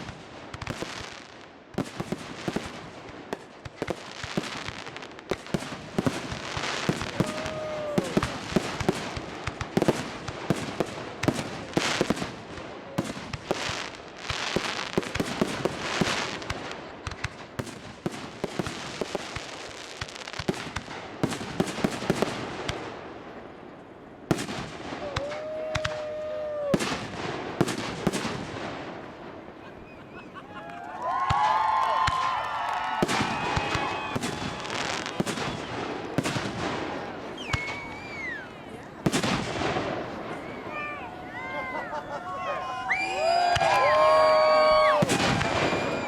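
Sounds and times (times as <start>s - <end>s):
fireworks banging and crackling: 0.0s - 42.4s, 43.0s - 46.0s.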